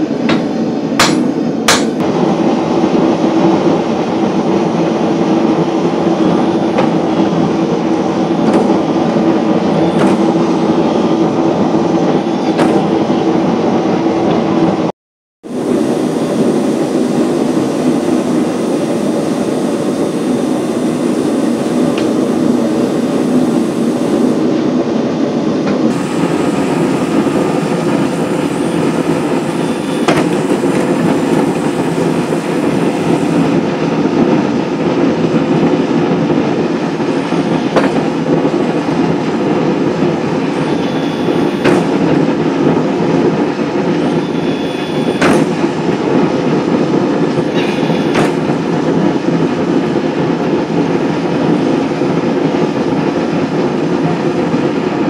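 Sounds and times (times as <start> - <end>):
hydraulic press running: 0.0 - 14.7, 15.5 - 24.7, 25.6 - 55.0.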